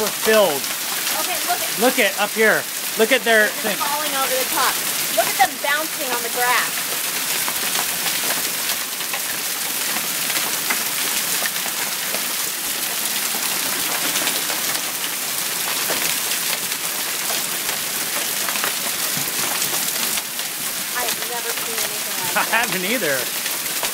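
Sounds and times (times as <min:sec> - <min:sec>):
hail striking: 0:00.0 - 0:23.9
heavy rain hiss: 0:00.0 - 0:23.9.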